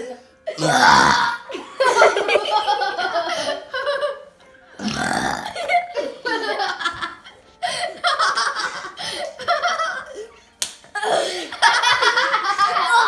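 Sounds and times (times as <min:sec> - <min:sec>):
people laughing and giggling: 0:01.4 - 0:04.6, 0:05.4 - 0:13.0.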